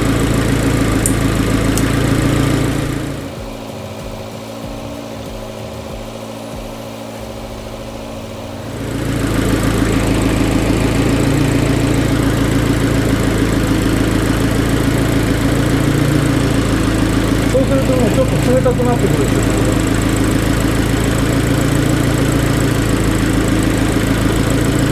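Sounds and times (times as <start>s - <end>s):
car engine idling: 0.0s - 24.9s
steady rushing noise: 0.0s - 24.9s.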